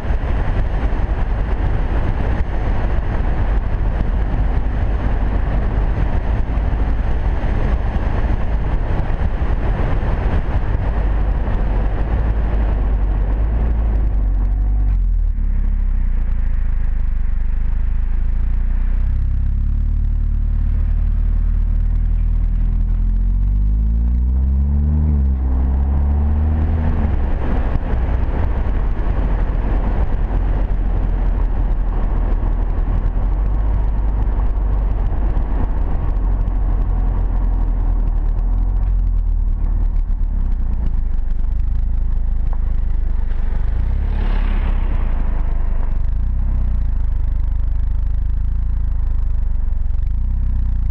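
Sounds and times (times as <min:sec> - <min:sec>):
car exhaust note: 0:00.0 - 0:50.9
wind and road rush: 0:00.0 - 0:50.9.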